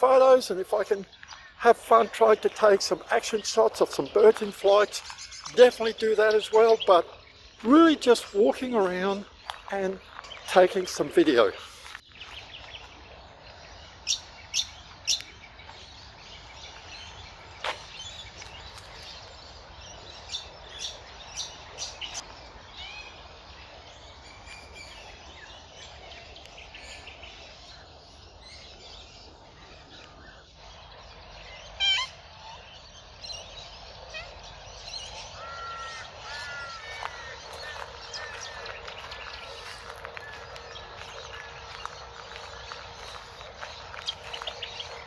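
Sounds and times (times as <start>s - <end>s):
birds chirping and calling: 0.0s - 45.0s.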